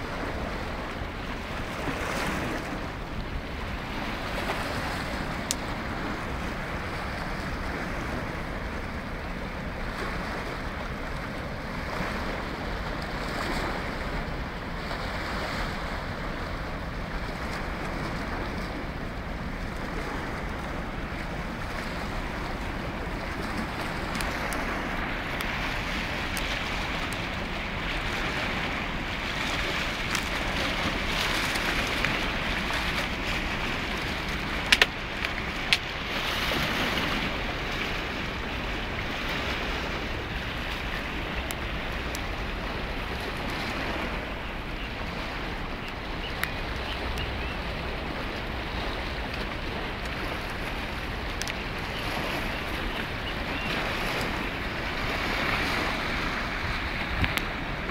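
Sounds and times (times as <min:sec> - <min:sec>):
choppy river water: 0:00.0 - 0:57.9
wind rushing over microphone: 0:00.0 - 0:57.9.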